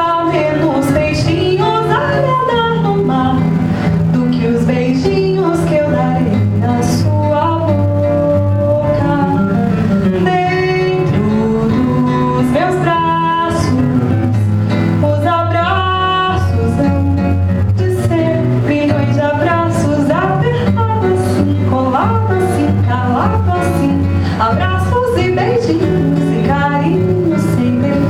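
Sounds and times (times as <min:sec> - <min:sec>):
acoustic guitar: 0:00.0 - 0:28.0
woman singing: 0:00.0 - 0:28.0.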